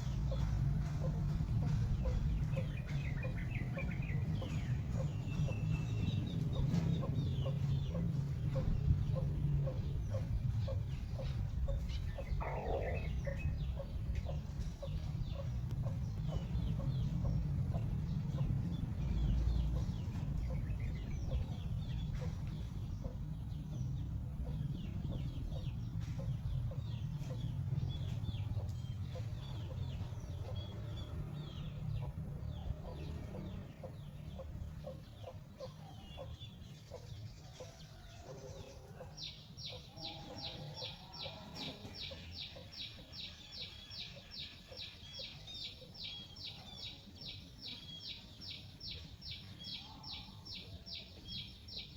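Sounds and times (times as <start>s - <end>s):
chickens clucking: 0.0s - 51.9s
steady low rumble: 0.0s - 51.9s.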